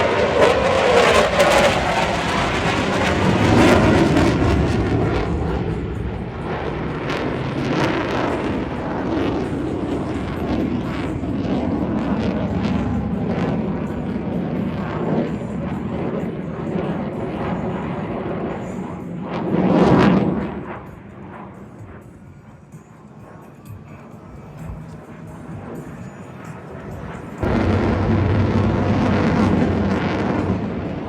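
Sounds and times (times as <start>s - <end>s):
jet engine rushing: 0.0s - 31.0s.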